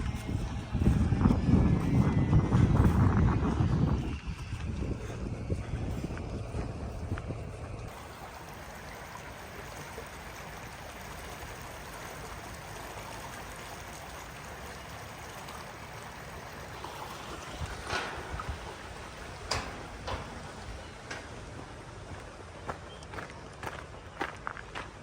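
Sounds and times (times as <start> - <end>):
running water stream: 0.0 - 25.0.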